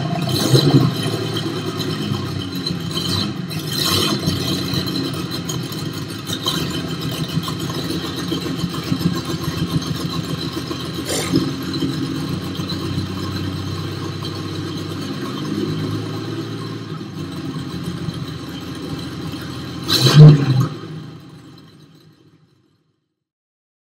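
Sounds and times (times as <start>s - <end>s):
engine running with rattle: 0.0s - 23.0s.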